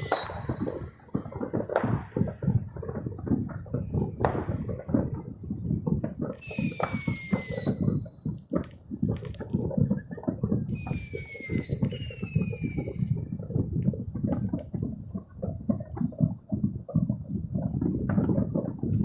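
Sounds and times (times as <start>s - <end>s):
falling firework whistles: 0.0s - 16.4s
fireworks popping and booming: 0.0s - 19.0s.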